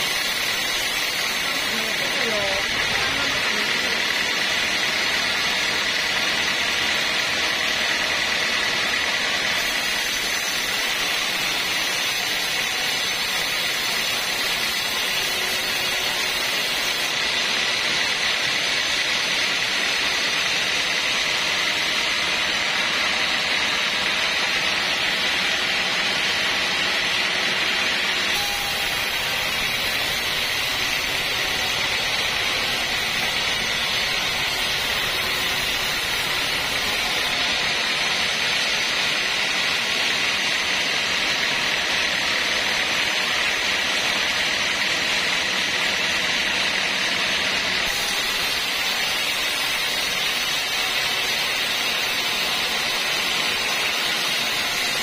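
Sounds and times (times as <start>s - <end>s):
band saw whining through timber: 0.0s - 55.0s.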